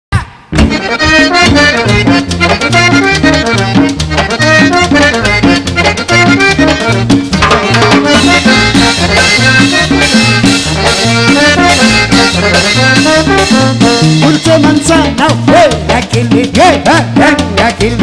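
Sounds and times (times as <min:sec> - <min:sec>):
brass bass horn line: 0:00.2 - 0:18.0
button accordion melody: 0:00.5 - 0:18.0
congas and hand percussion: 0:00.6 - 0:18.0.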